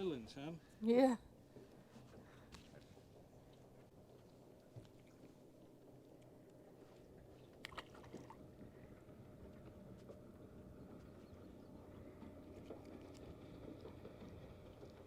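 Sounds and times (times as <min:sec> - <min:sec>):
faint low hum: 0:00.2 - 0:15.0.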